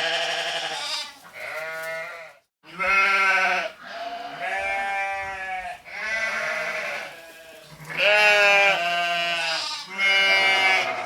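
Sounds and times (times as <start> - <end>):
sheep bleating: 0.0 - 11.0.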